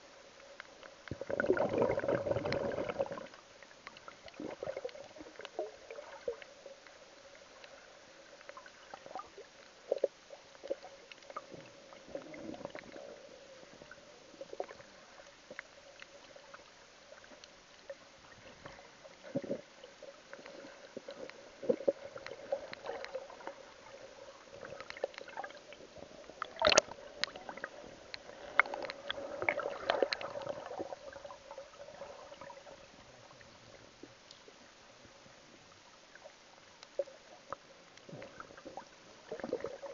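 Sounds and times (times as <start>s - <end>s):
muffled underwater water movement: 0.0s - 39.9s.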